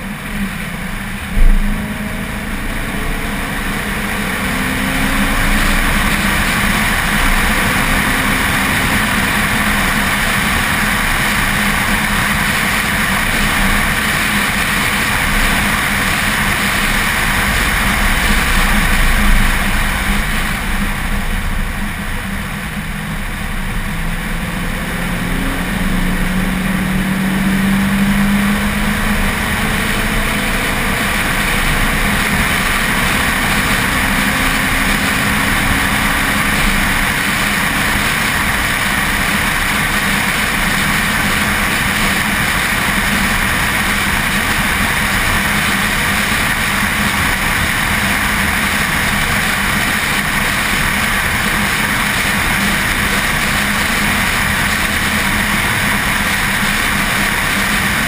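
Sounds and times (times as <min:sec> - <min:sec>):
car engine running: 0:00.0 - 0:58.0
wind and road noise: 0:00.0 - 0:58.0.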